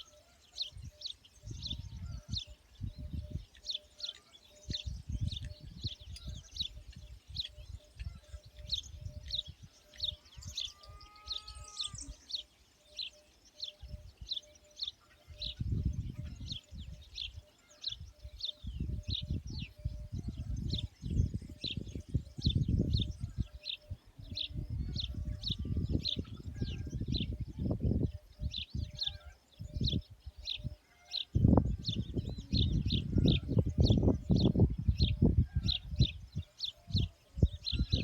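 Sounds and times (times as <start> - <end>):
bird chirping: 0.0 - 38.0.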